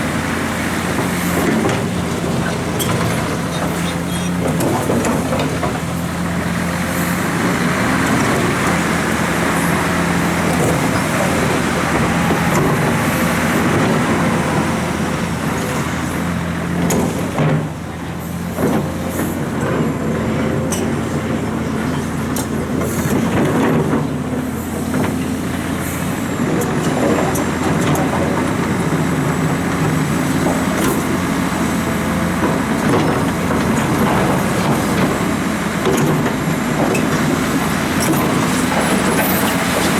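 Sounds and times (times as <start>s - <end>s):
excavator diesel engine: 0.0s - 39.9s
hydraulic machinery noise: 0.0s - 39.9s.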